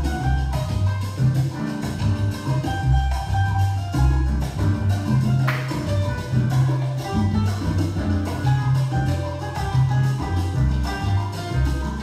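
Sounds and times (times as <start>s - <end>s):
latin dance music: 0.0s - 12.0s.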